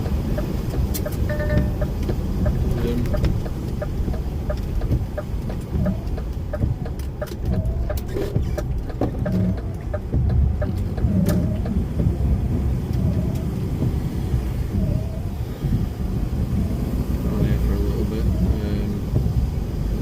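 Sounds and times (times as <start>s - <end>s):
rapid light ticking: 0.0s - 16.6s
engine and road rumble: 0.0s - 20.0s.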